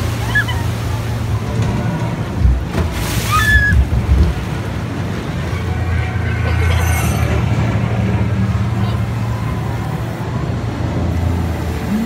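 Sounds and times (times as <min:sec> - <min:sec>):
low rumble of ride boat: 0:00.0 - 0:12.0.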